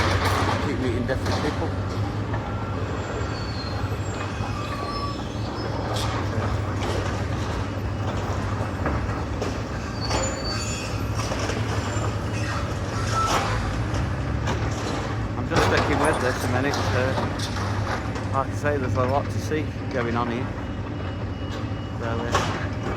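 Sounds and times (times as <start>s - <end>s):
metal scraping on metal squeals: 0.0s - 17.8s, 20.0s - 22.9s
machinery engine drone: 0.0s - 22.9s.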